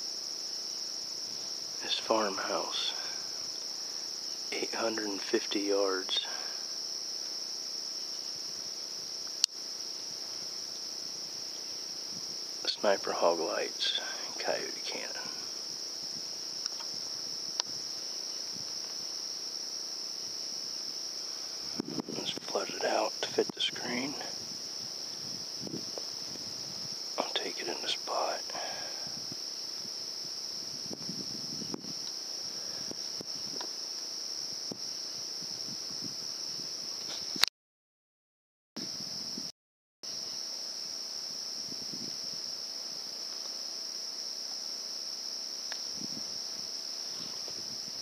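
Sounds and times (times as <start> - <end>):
crickets chirping: 0.0 - 37.5, 38.8 - 48.0.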